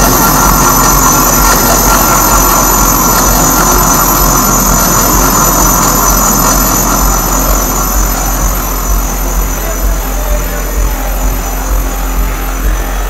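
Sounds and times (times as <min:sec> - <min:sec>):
electronic noise music: 0:00.0 - 0:13.0.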